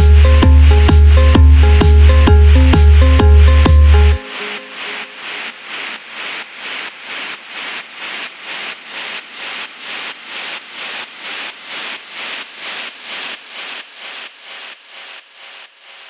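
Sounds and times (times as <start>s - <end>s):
pulsing synthesized white noise: 0.0s - 16.0s.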